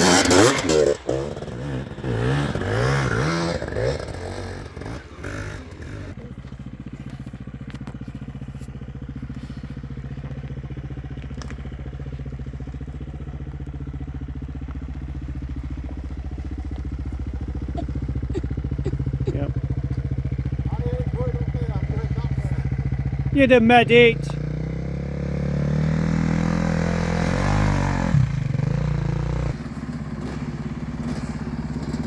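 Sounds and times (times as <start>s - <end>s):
dirt bike engine revving and idling: 0.0s - 32.0s.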